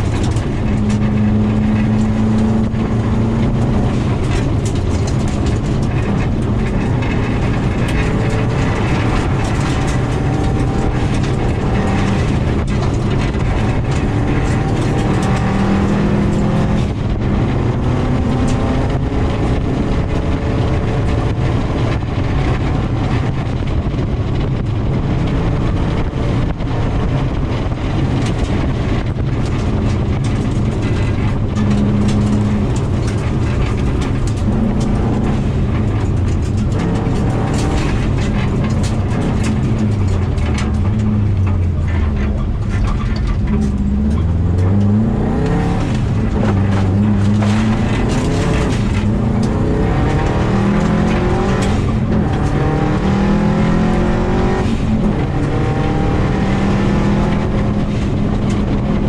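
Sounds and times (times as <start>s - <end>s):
gravel clattering on car underbody: 0.0s - 59.0s
rally car engine revving: 0.0s - 59.0s.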